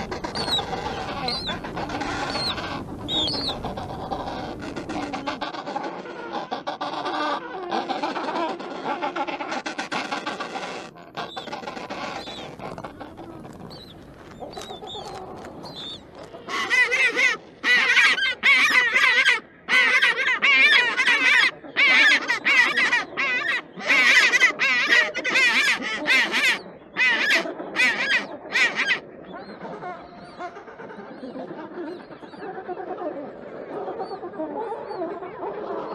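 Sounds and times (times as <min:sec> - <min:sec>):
penguins calling: 0:00.0 - 0:29.0.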